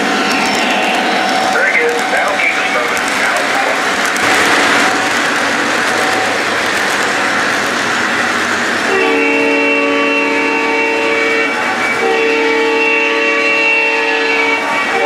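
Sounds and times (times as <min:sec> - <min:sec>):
model trains running on track: 0:00.0 - 0:15.0.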